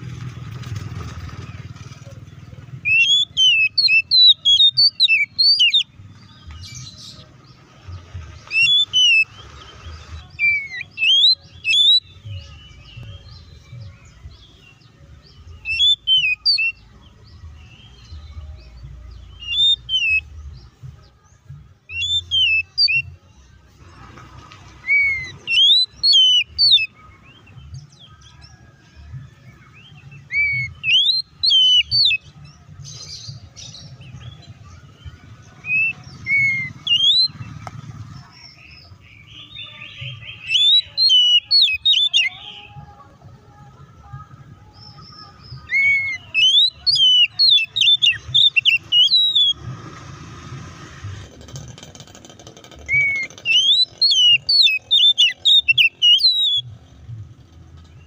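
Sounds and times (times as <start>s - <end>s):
magpie-robin singing: 0.9s - 23.8s, 24.7s - 28.6s, 29.3s - 43.0s, 43.6s - 49.8s, 52.0s - 58.0s.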